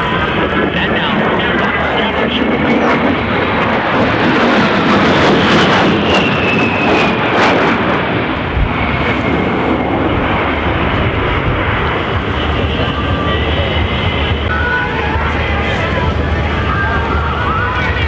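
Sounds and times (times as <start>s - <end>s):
jet aircraft passing: 0.0s - 18.0s.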